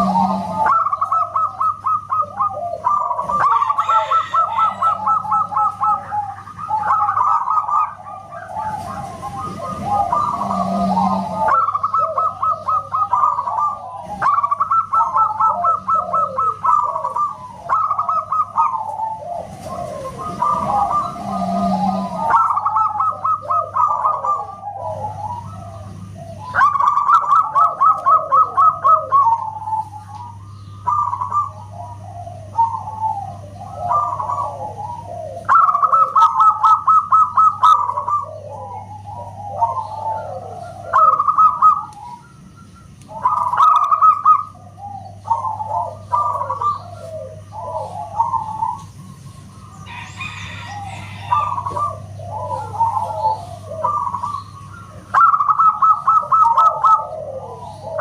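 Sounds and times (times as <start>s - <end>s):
dove cooing: 0.0s - 58.0s
steady low hum: 0.0s - 58.0s.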